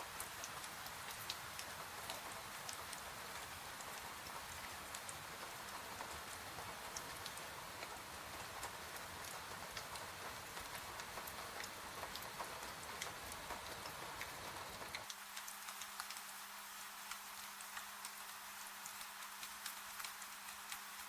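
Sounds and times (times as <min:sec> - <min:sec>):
steady rain hiss: 0:00.0 - 0:21.0
fire crackles and ticks: 0:00.1 - 0:21.0.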